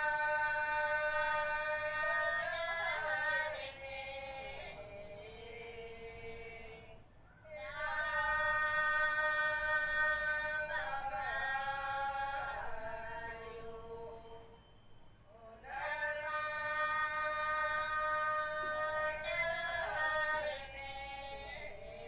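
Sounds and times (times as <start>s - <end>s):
person singing a hymn: 0.0s - 14.6s, 15.3s - 22.0s.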